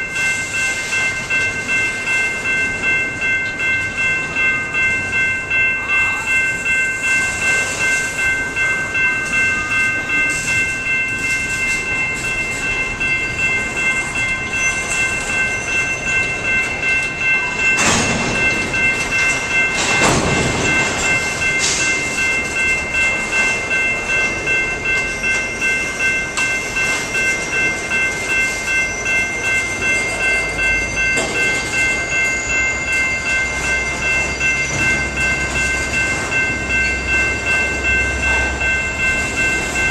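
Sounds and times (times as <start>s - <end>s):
railroad crossing bells ringing: 0.0s - 39.9s
train rolling through: 0.0s - 39.9s.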